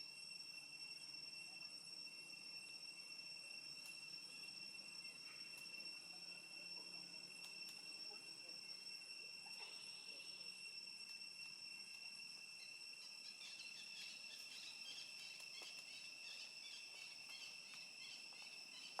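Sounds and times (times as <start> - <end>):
faint chirps: 0.0 - 19.0
high-pitched insect drone: 0.0 - 19.0.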